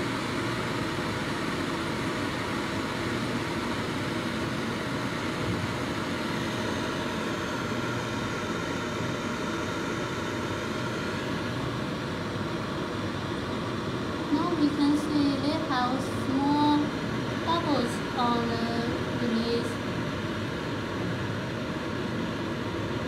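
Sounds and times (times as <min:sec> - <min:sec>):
electric kettle hissing: 0:00.0 - 0:23.0.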